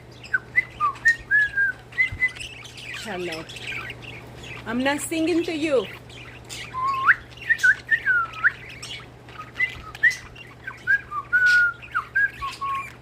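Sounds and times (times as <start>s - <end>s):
budgies chirping: 0.0s - 13.0s
budgies whistling: 0.0s - 13.0s.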